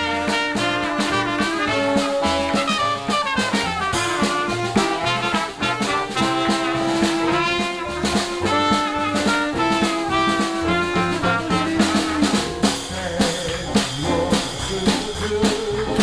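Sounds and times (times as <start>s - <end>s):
brass instruments holding notes: 0.0s - 16.0s
drum kit beat: 0.0s - 16.0s.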